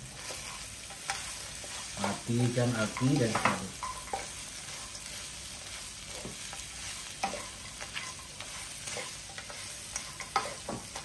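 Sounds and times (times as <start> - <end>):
light sizzle in pan: 0.0 - 11.0
wooden spatula scraping a wok: 0.0 - 11.0.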